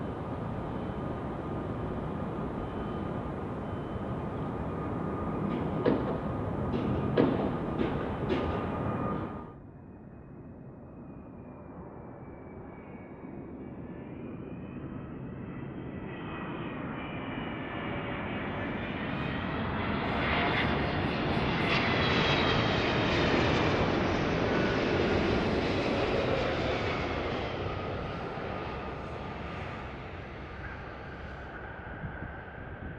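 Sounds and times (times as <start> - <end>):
jet engines rumbling and whining: 0.0 - 32.9.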